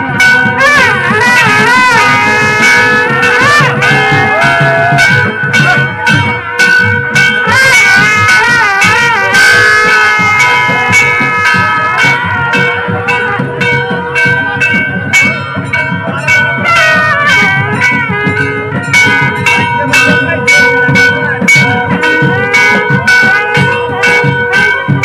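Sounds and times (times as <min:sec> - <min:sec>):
crowd voices: 0:00.0 - 0:25.0
percussion strikes: 0:00.0 - 0:25.0
wavering melody: 0:00.0 - 0:25.0
held wind instrument tone: 0:00.1 - 0:06.2, 0:07.2 - 0:25.0.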